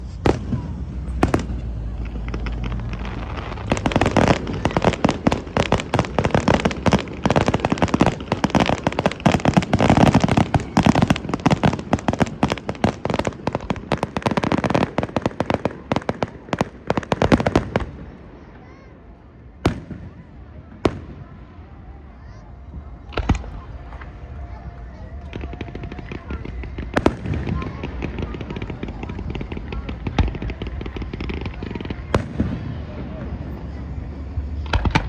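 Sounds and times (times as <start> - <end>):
fireworks cracking and banging: 0.0 - 35.0.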